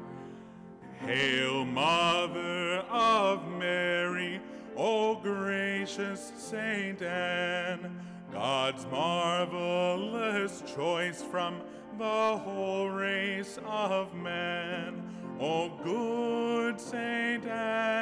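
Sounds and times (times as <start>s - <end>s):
person singing a hymn: 0.0s - 18.0s.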